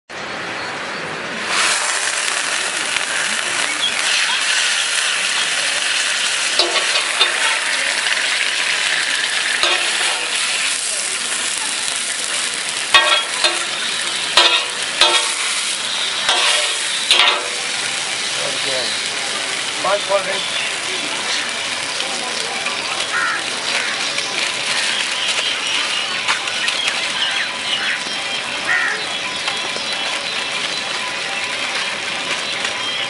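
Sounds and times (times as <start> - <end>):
food sizzling in hot oil: 1.3 - 33.0.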